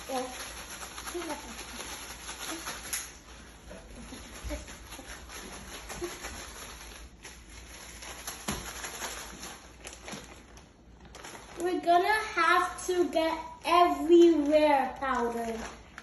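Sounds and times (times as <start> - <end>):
rustling of coating mix: 0.0 - 16.0.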